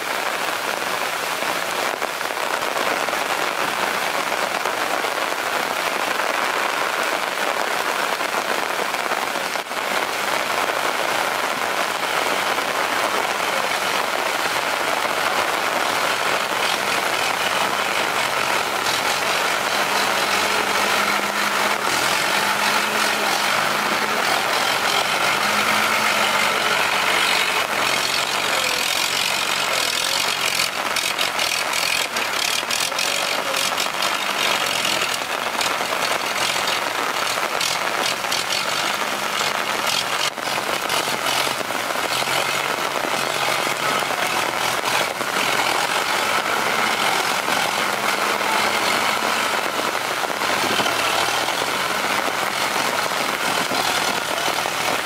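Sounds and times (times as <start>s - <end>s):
rain hissing: 0.0s - 55.0s
diesel engine running: 0.1s - 55.0s.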